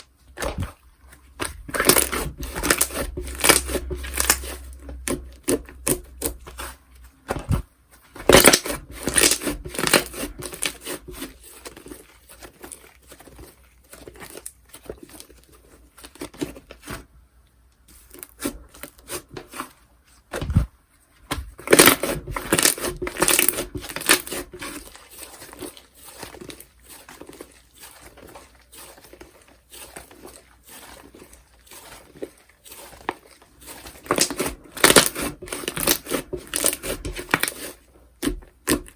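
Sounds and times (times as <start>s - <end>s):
slime crackling and tearing: 0.0s - 6.8s, 8.2s - 16.9s, 21.6s - 38.9s.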